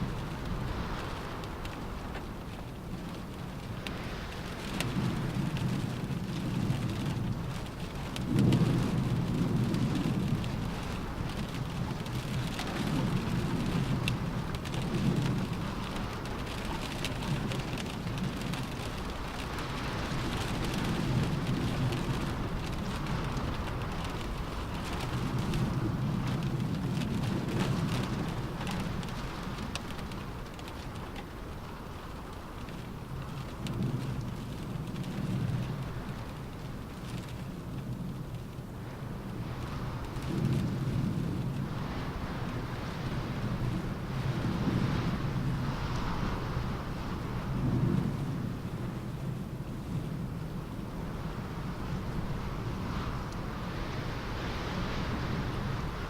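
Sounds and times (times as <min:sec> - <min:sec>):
rain on a car roof: 0:00.0 - 0:56.0.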